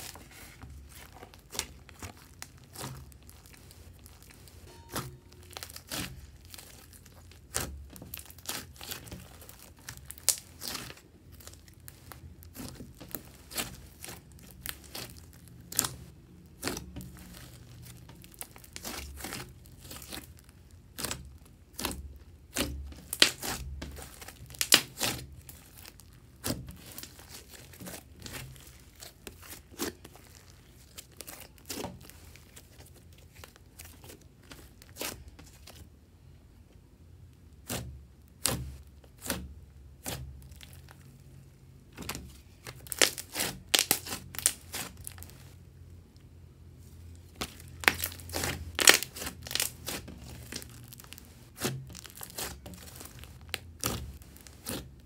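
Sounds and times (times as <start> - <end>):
slime popping and crackling: 0.0 - 35.8, 42.0 - 45.5, 47.3 - 55.0.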